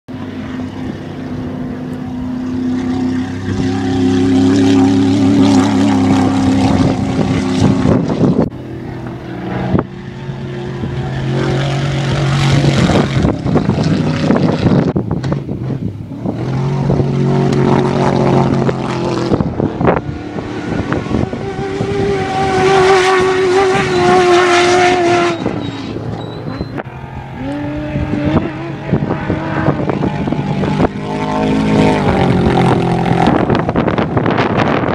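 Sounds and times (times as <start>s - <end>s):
race vehicles passing at speed: 0.1s - 34.9s.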